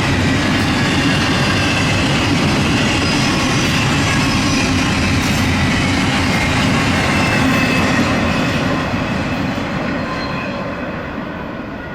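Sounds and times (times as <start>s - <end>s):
wheels clickety-clack on rails: 0.0s - 11.3s
freight train passing: 0.0s - 11.9s.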